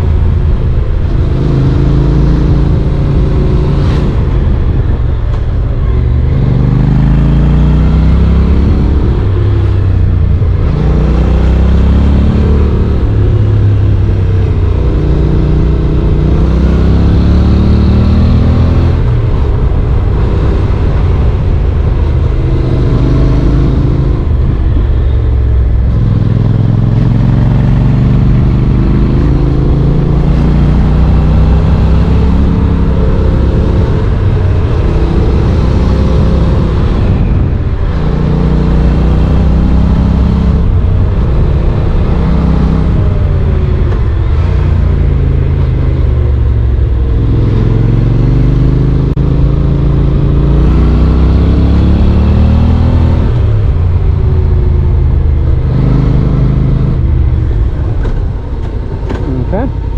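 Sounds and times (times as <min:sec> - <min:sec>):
motorcycle engine revving while riding: 0:00.0 - 0:59.9.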